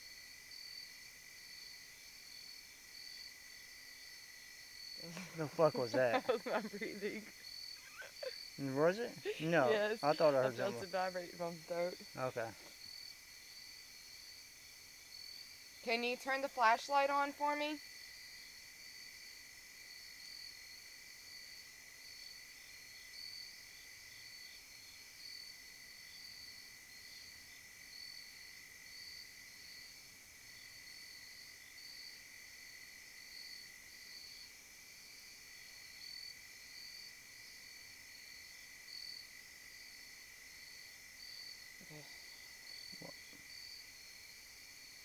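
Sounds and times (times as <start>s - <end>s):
night insects trilling: 0.0s - 45.0s.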